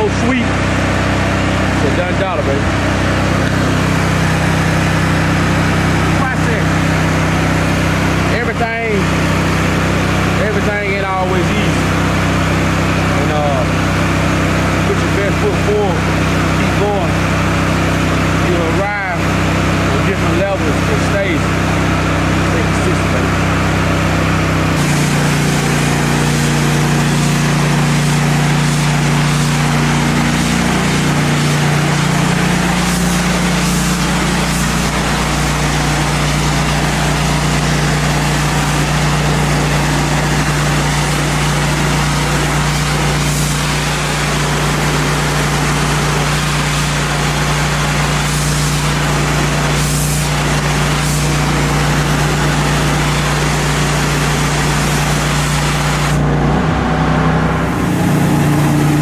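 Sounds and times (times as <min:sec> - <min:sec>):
pressure washer engine running: 0:00.0 - 0:59.0
water spraying on concrete: 0:00.0 - 0:59.0.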